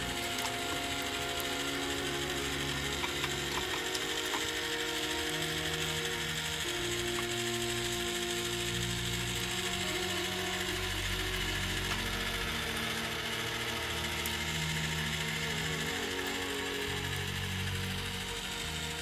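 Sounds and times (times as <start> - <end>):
background music: 0.0 - 19.0
grill motor and gear drive running: 0.0 - 19.0.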